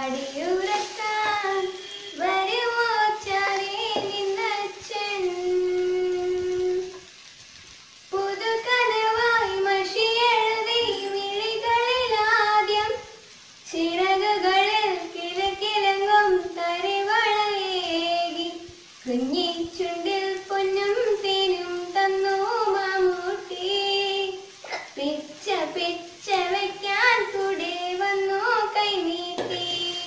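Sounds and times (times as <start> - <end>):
girl singing solo: 0.0 - 7.0, 8.2 - 13.1, 13.7 - 30.0.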